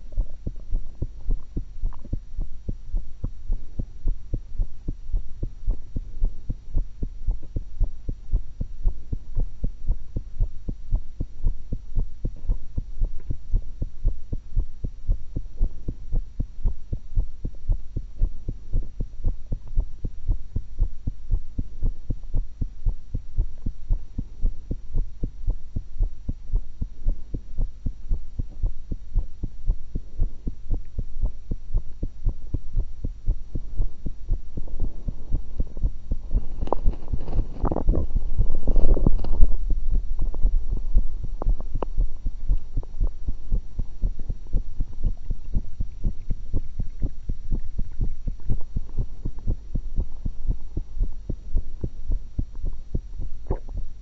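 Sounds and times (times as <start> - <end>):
heartbeat through stethoscope: 0.0 - 54.0.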